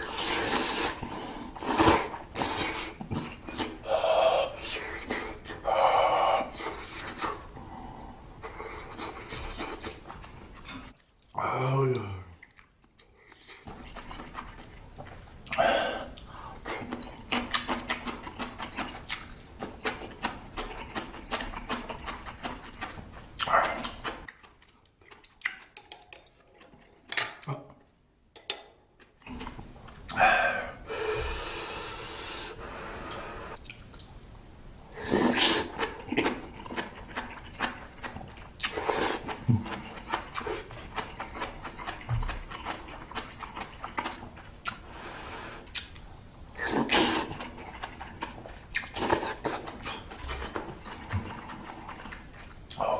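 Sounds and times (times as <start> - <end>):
chewing and slurping noodles: 0.0 - 11.1, 12.4 - 27.1, 34.9 - 52.8.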